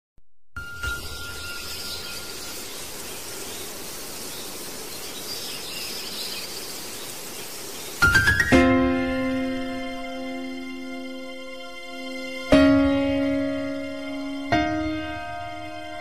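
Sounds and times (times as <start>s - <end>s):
insects chirping: 0.6s - 16.0s
birds calling: 0.7s - 16.0s.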